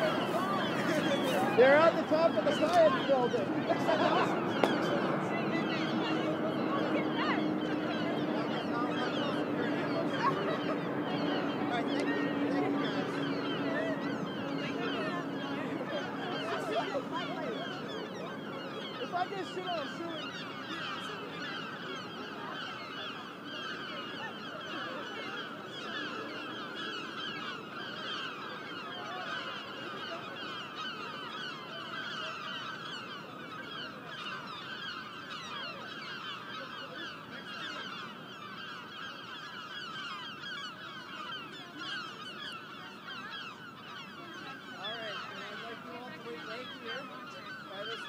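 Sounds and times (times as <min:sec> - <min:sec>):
flock of birds chirping: 0:00.0 - 0:48.0.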